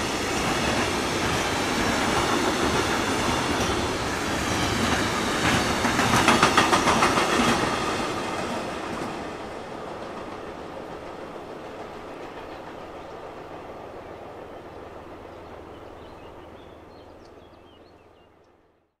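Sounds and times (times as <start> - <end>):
freight train rumbling on track: 0.0 - 18.6.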